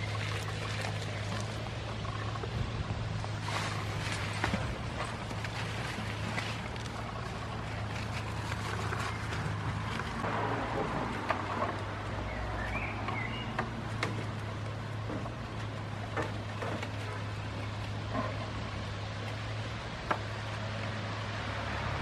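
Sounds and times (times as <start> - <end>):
goats chewing plants: 0.0 - 20.8.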